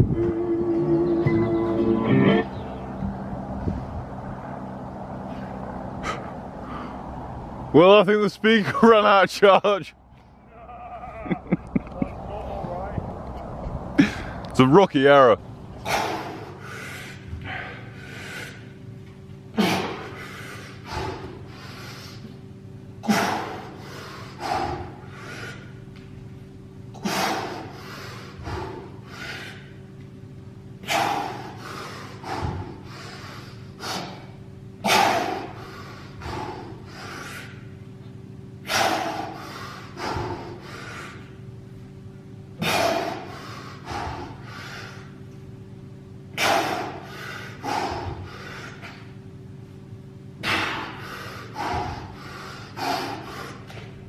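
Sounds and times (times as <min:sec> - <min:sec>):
faint steady hum: 0:00.0 - 0:54.0
man breathing heavily: 0:03.4 - 0:07.7, 0:13.8 - 0:14.6, 0:15.7 - 0:54.0.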